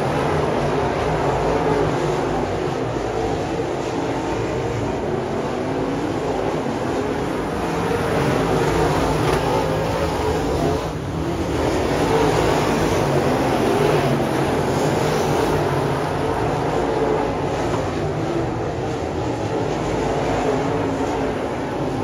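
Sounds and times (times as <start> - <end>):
race car engines roaring: 0.0 - 22.0.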